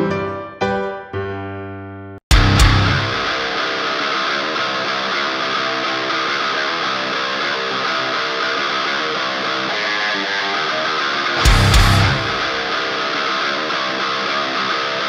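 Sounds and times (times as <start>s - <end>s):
electric guitar playing fast riff: 2.3s - 15.0s.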